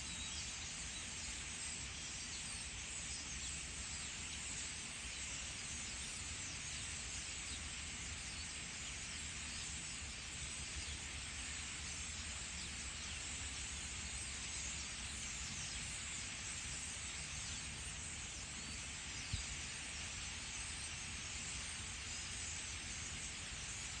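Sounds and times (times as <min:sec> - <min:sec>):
flock of birds chattering: 0:00.0 - 0:24.0.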